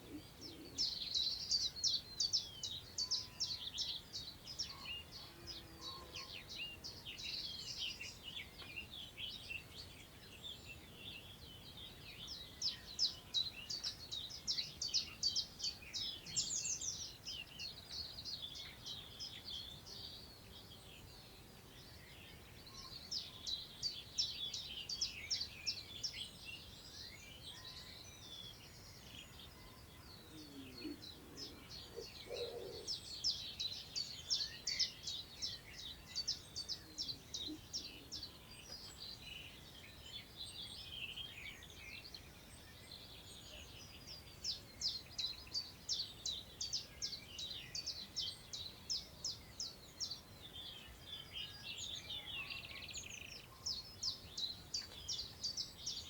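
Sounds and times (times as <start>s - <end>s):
songbird chirping: 0.0s - 56.0s
wind through long grass: 0.0s - 56.0s.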